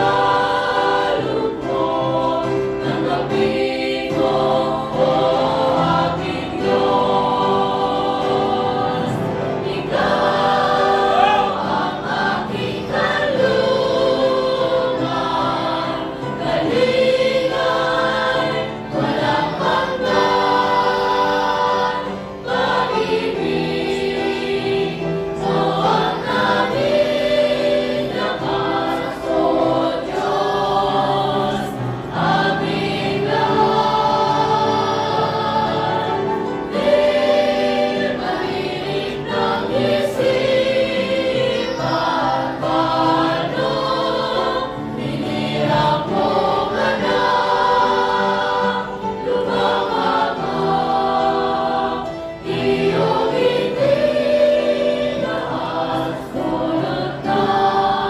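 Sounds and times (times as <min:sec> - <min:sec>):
choir singing worship song: 0:00.0 - 0:58.0.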